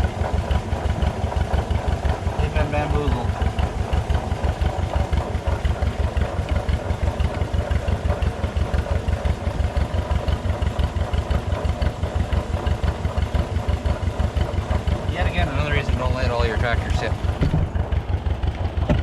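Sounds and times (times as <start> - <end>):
engine idling with rapid pulsing: 0.0 - 19.0.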